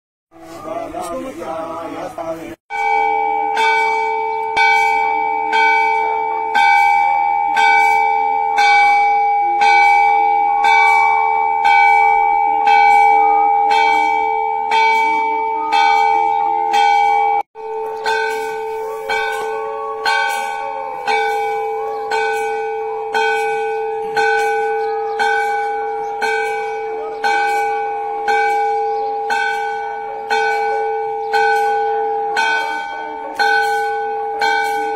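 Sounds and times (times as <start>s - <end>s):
large temple bell ringing: 0.4s - 34.9s.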